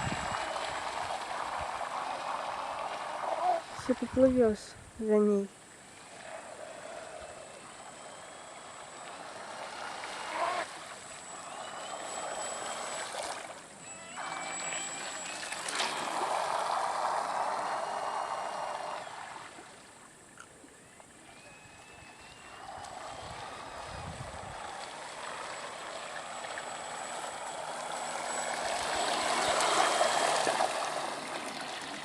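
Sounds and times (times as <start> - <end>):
toy boat motor whining: 0.0 - 19.9, 20.7 - 32.0.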